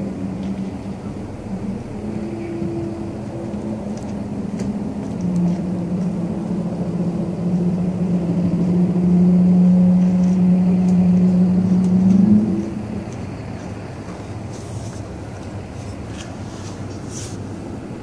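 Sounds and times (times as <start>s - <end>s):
low droning hum: 0.0s - 18.0s
rumbling background: 0.0s - 18.0s.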